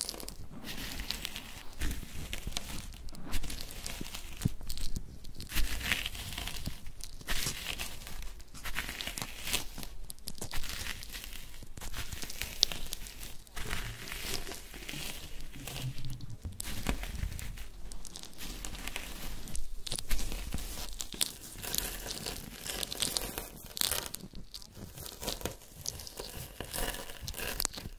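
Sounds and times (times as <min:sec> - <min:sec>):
paper or plastic crinkling: 0:00.0 - 0:27.9.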